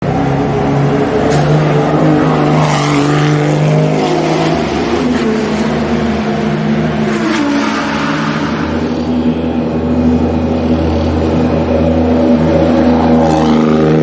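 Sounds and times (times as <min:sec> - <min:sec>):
race car engine running loud: 0:00.0 - 0:14.0.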